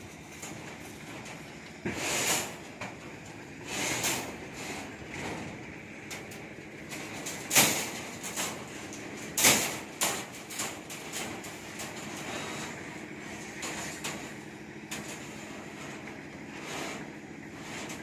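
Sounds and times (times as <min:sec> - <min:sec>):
wire scraping and clinking on steel: 0:00.0 - 0:18.0.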